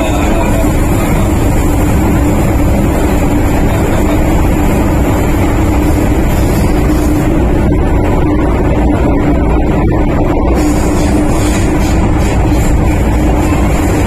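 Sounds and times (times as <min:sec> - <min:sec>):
low hum: 0:00.0 - 0:14.0
train rumbling and roaring: 0:00.0 - 0:14.0.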